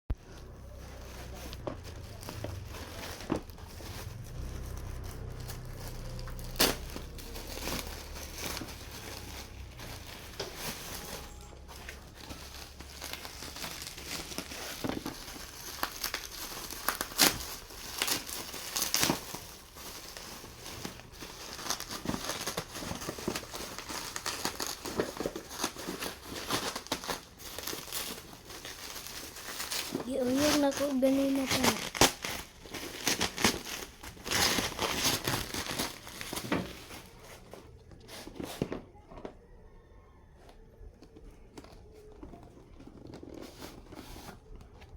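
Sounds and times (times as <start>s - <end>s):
packaging crinkling and tearing: 0.1s - 44.9s.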